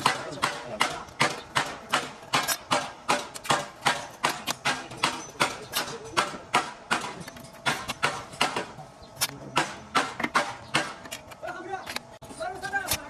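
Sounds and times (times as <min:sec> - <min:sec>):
rhythmic hammer blows: 0:00.0 - 0:12.5.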